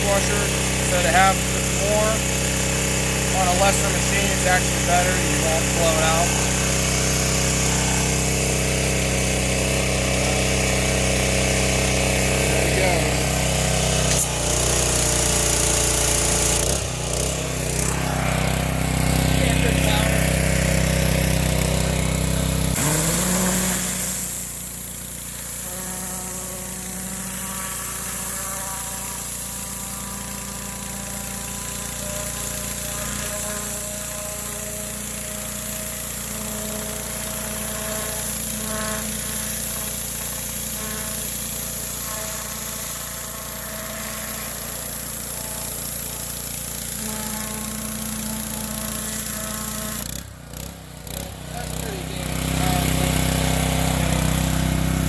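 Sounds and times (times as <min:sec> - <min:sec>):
water spraying hiss: 0:00.0 - 0:50.2, 0:51.1 - 0:55.0
pressure washer engine: 0:00.0 - 0:55.0.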